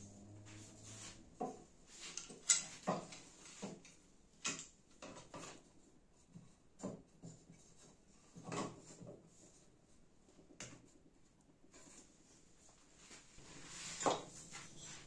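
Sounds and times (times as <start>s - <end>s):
wood and tools knocking and scraping: 0.0s - 15.0s.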